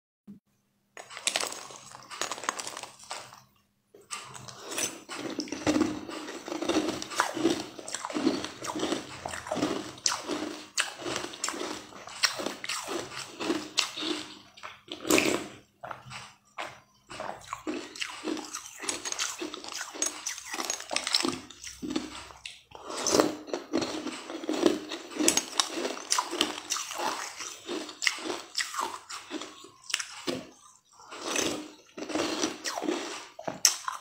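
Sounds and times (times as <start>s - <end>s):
crunchy chewing: 4.0s - 34.0s
slurping liquid: 4.0s - 34.0s.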